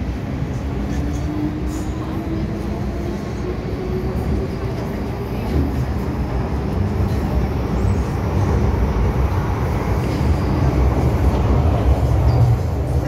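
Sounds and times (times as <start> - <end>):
train wheels rumbling in tunnel: 0.0 - 13.0.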